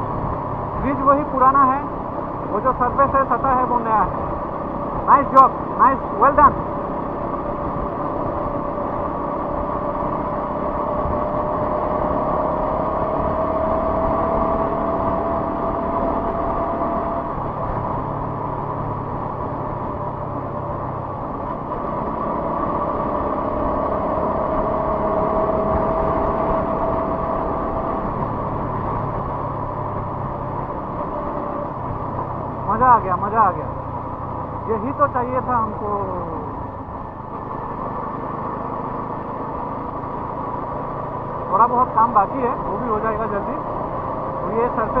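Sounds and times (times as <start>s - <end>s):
motorcycle engine accelerating: 0.0s - 45.0s
wind and road noise: 0.0s - 45.0s.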